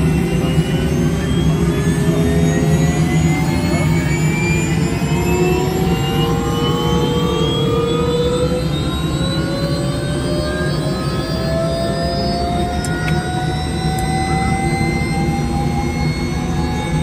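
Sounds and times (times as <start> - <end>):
helicopter turbine spooling up: 0.0 - 17.0.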